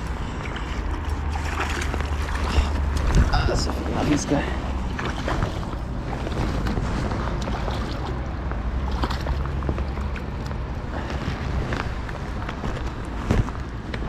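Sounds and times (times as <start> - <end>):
wind noise on microphone: 0.0 - 4.2, 4.9 - 14.0
steady low rumble: 0.0 - 14.0.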